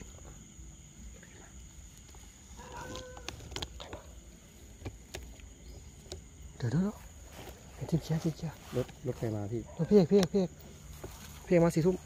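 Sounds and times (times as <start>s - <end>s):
faint night background: 0.0s - 12.0s.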